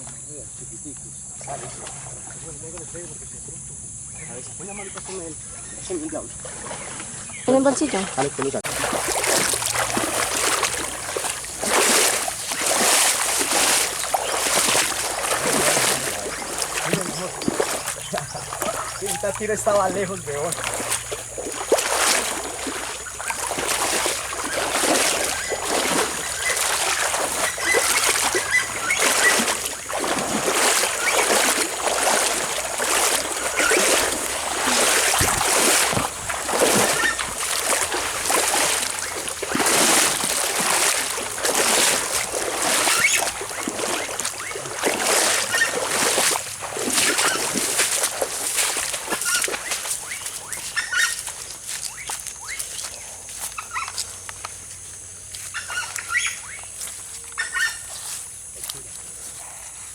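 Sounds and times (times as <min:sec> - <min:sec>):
water splashing in strokes: 0:07.8 - 0:59.9.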